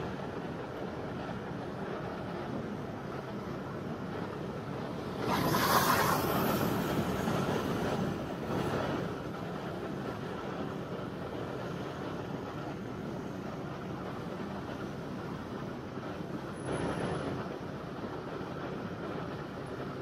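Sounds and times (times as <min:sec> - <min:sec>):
rush of traffic noise: 0:00.0 - 0:20.0.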